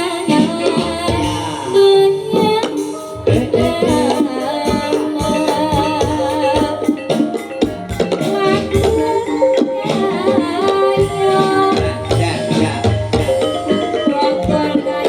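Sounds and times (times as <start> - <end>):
hand drums driving beat: 0.0 - 15.0
wavering vibrato melody: 0.0 - 15.0.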